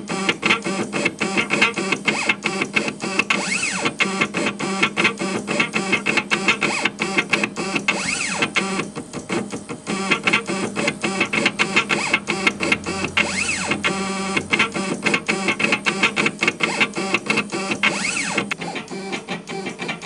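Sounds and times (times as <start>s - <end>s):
stepper motors chattering and whining: 0.2s - 9.1s, 9.8s - 20.0s.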